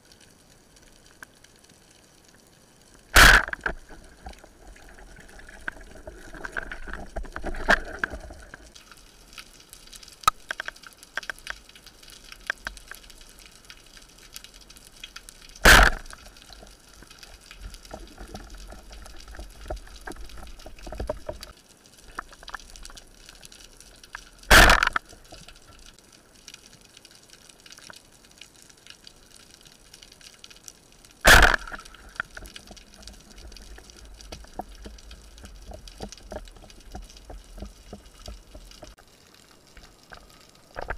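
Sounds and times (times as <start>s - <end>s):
underwater hiss with crackling clicks: 0.0s - 40.9s.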